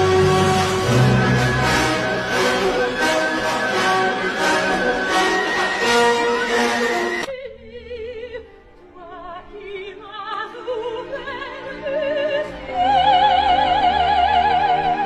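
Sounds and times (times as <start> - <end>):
operatic singing with vibrato: 0.0 - 15.0.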